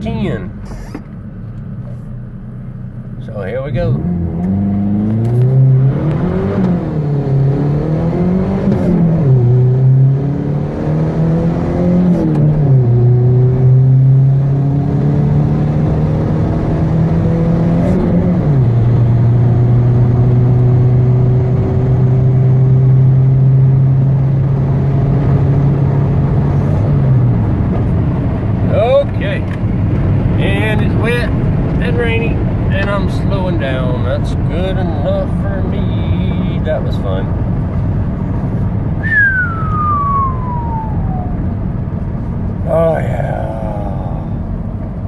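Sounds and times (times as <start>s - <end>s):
pickup engine accelerating: 0.0s - 45.0s.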